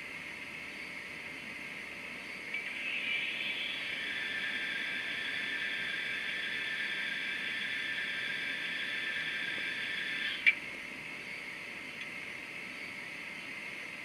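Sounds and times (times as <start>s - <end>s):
thin steam hiss from small speaker: 0.0s - 14.0s.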